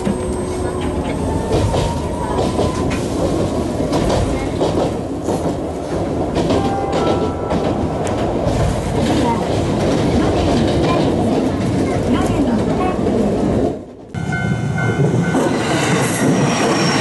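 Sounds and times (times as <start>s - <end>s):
train rumbling over bridge: 0.0s - 17.0s.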